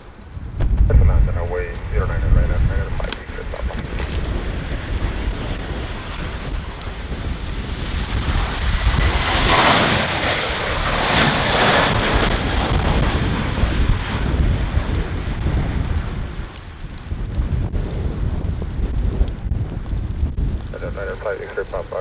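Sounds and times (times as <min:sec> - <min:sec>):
jet airliner passing: 0:00.0 - 0:16.5, 0:20.6 - 0:22.0
wind buffeting microphone: 0:00.0 - 0:22.0.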